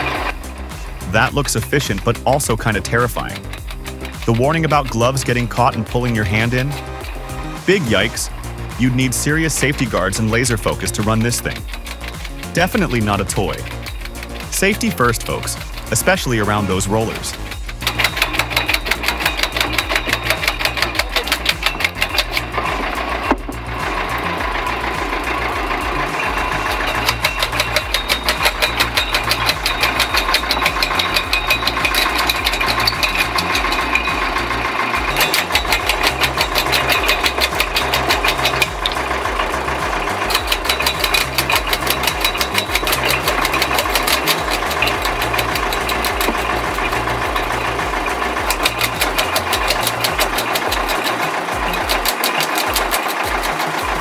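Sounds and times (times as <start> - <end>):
heavy machinery engine pulsing: 0.0 - 54.0.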